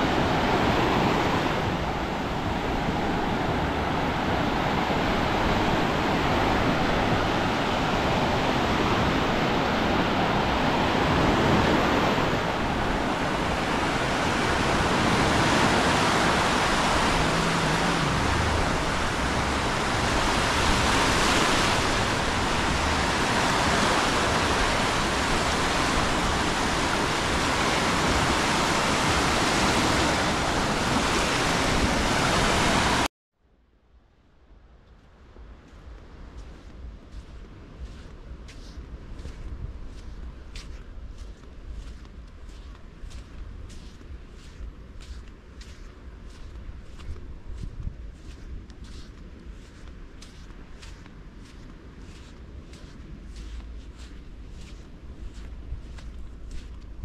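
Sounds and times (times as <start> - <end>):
sea waves washing over sandy shore: 0.0 - 33.1, 35.6 - 57.0.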